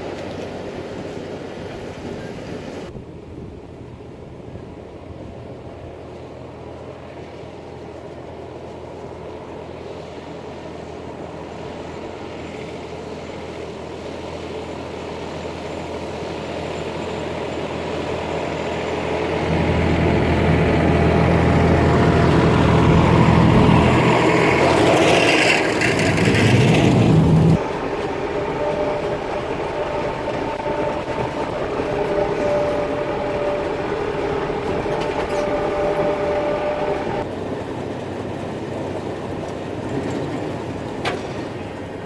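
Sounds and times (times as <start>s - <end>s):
tractor engine running: 5.3s - 42.0s
round baler working: 5.5s - 42.0s.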